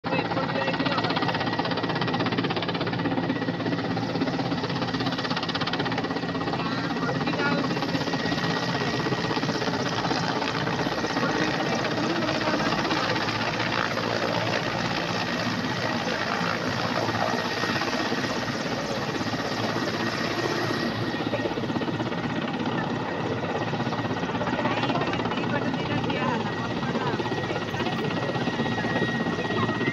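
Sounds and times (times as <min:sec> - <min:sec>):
machine noise with rapid flutter: 0:00.1 - 0:29.9.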